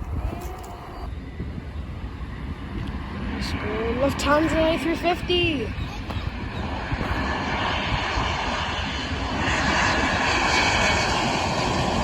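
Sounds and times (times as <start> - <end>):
jet engines roaring and whining: 0.0 - 12.0.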